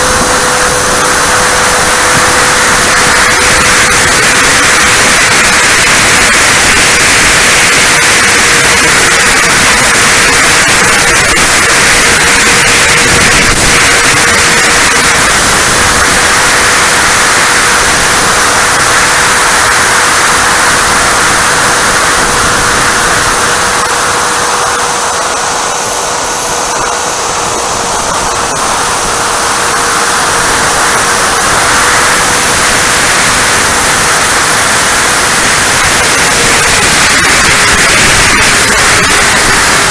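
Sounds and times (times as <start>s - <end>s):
model jet fan whining: 0.0s - 39.9s
wind rush: 0.0s - 39.9s.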